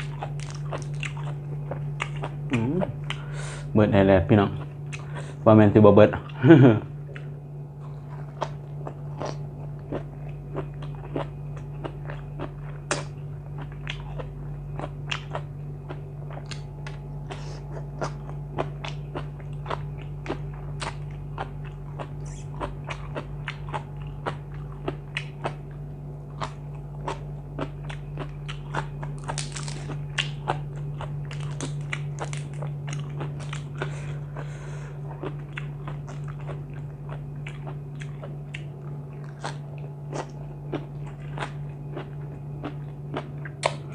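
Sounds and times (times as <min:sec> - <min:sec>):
chewing and crunching: 0:00.0 - 0:03.3, 0:07.0 - 0:43.9
steady low hum: 0:00.0 - 0:43.9.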